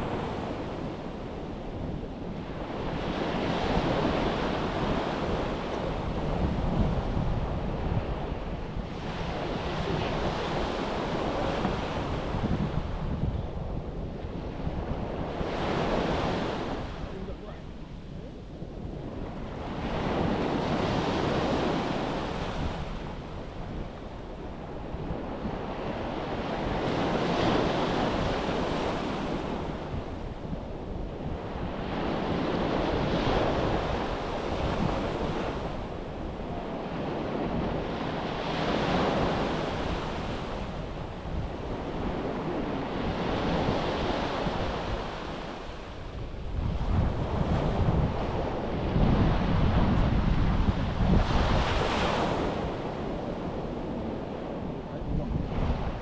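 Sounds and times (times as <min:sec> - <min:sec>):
sea waves breaking on a beach: 0:00.0 - 0:56.0
wind buffeting microphone: 0:00.0 - 0:56.0.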